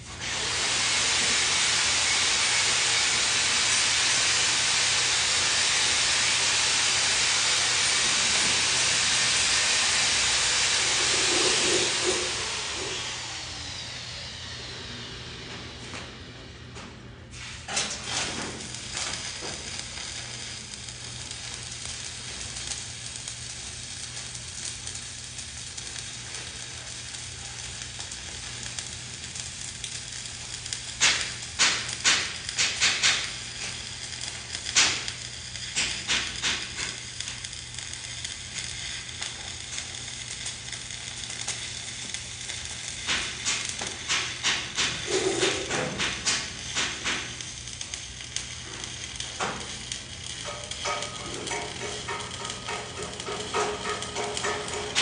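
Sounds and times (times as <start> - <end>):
welding arc crackling and popping: 0.0 - 13.4, 17.4 - 55.0
welding arc hissing: 0.0 - 16.4, 17.2 - 55.0.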